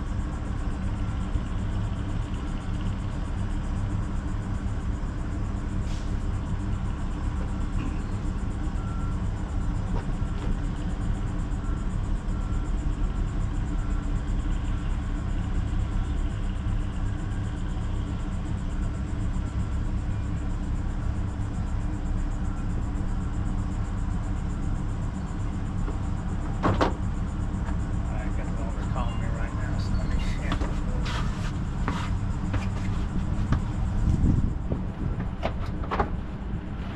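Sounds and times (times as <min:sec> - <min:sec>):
outboard engine idling: 0:00.0 - 0:36.8.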